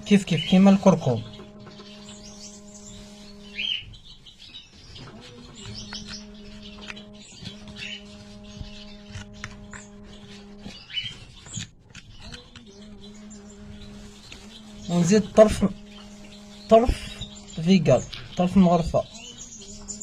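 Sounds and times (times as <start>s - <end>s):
steady electrical hum: 0.0s - 11.1s, 12.7s - 20.0s
small birds chirping: 0.0s - 20.0s.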